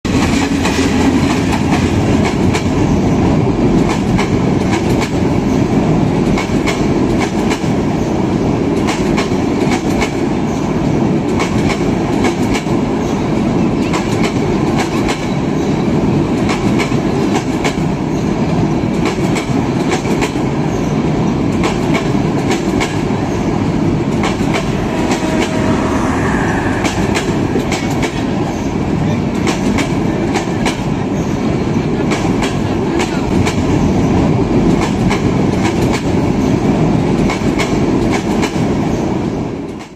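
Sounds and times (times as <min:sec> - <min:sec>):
train rumbling: 0:00.1 - 0:39.9.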